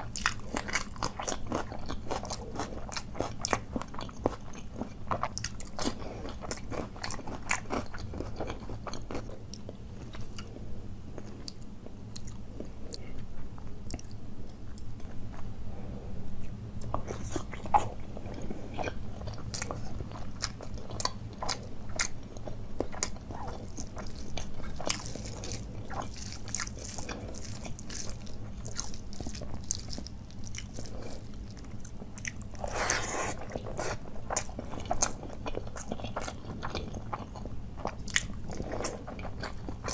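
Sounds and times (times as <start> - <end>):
chewing crunchy food: 0.0 - 15.5, 16.3 - 39.9.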